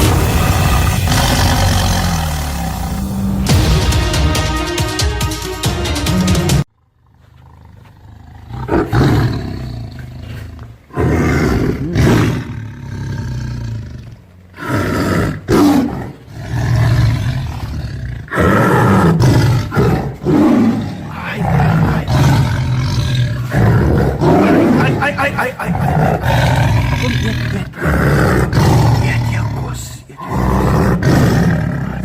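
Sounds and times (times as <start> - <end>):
tiger growling roars: 0.0 - 3.4, 7.0 - 32.0.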